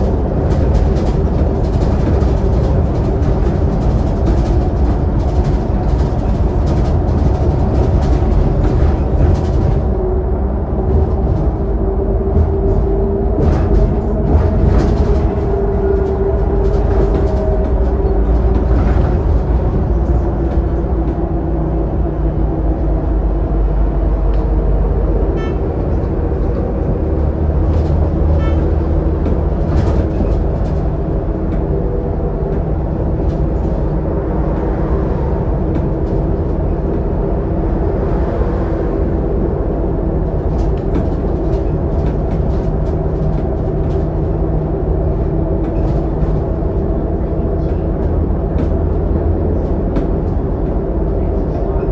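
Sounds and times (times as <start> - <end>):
bus diesel engine drone: 0.0 - 51.9.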